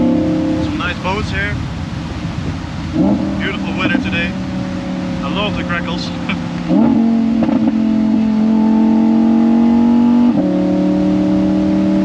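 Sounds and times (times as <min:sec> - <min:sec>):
sports car engine accelerating: 0:00.0 - 0:01.2, 0:02.2 - 0:12.0.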